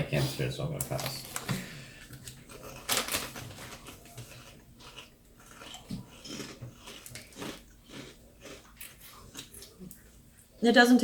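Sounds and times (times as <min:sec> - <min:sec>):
person crunching and chewing crackers: 0:01.0 - 0:10.1.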